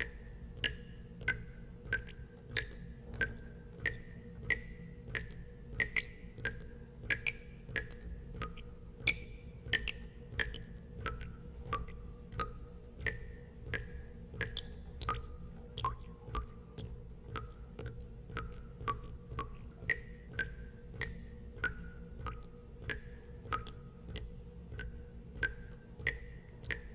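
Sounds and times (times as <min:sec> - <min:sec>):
water drops plinking into water: 0:00.0 - 0:26.9.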